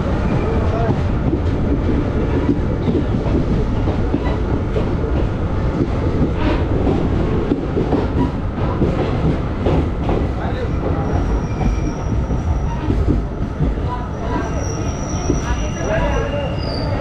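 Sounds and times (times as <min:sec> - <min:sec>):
clickety-clack over rail joints: 0:00.0 - 0:16.3
train wheels rumbling on track: 0:00.0 - 0:17.0.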